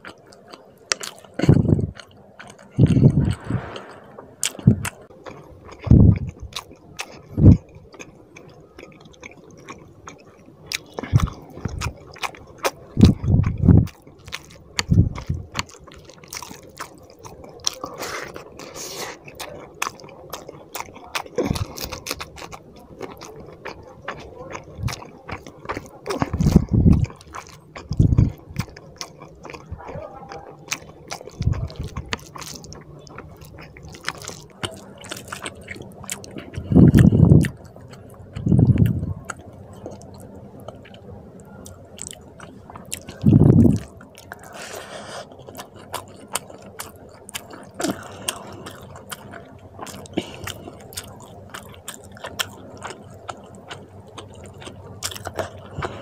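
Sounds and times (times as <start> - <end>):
wet chewing and lip-smacking: 0.0 - 56.0.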